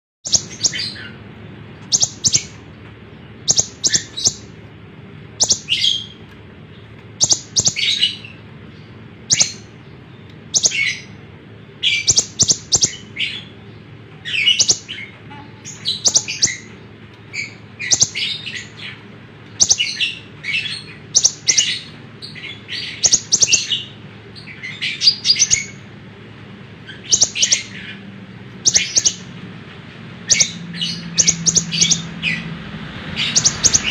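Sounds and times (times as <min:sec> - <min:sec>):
bird chirping: 0:00.2 - 0:01.2, 0:01.8 - 0:04.6, 0:05.3 - 0:25.9, 0:26.8 - 0:29.3, 0:30.2 - 0:33.9
steady low hum: 0:00.3 - 0:33.9.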